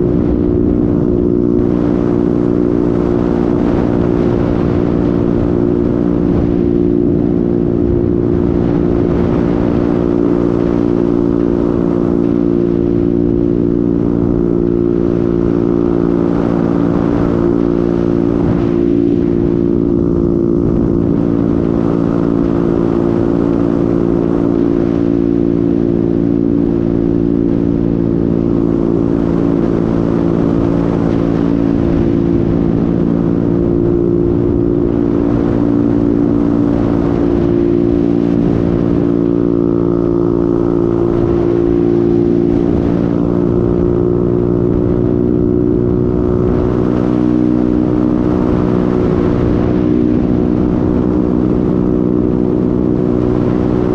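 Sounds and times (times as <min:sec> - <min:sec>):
scooter engine humming: 0:00.0 - 0:53.9
wind and road noise: 0:00.0 - 0:53.9.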